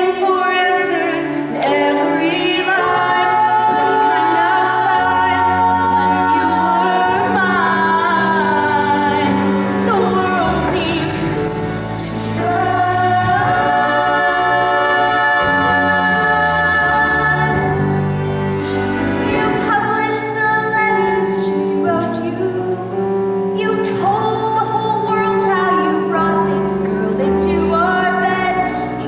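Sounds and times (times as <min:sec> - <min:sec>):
vocal group singing in harmony: 0:00.0 - 0:29.0.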